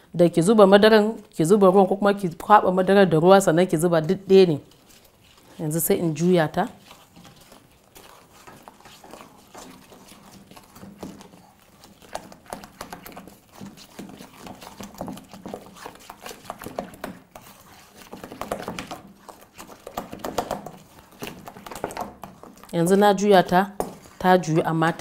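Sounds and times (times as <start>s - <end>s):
spoon scraping metal bowl: 4.2s - 25.0s.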